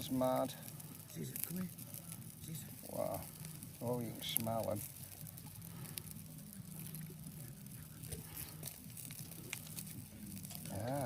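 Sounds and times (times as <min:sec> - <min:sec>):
burgers sizzling on a grill: 0:00.0 - 0:11.0
steady low hum: 0:00.0 - 0:11.0.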